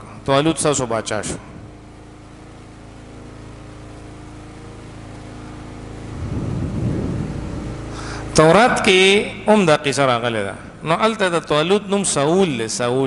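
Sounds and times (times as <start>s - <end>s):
motor humming: 0.0s - 12.9s
engine rumble: 0.0s - 13.0s.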